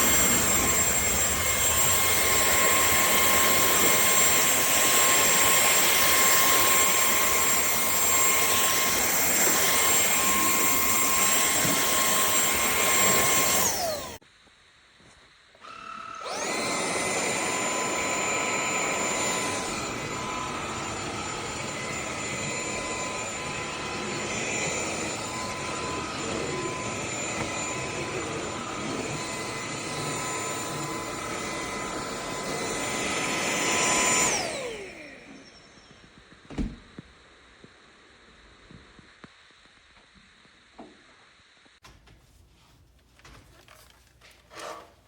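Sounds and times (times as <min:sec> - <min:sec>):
vacuum cleaner motor whine: 0:00.0 - 0:41.8.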